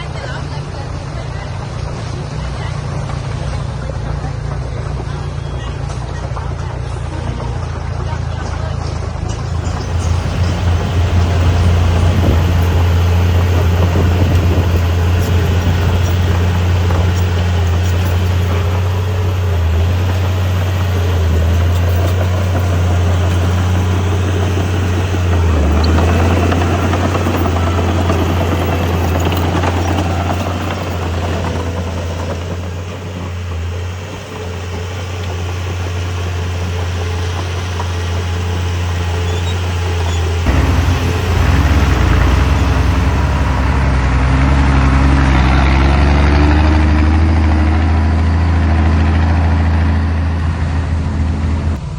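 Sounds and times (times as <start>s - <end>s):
heavy diesel engine droning: 0.0s - 51.9s.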